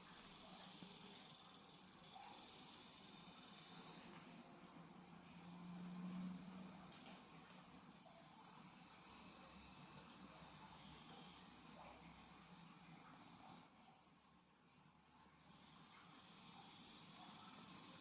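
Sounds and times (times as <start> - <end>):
cricket trilling: 0.0 - 13.7, 15.4 - 18.0.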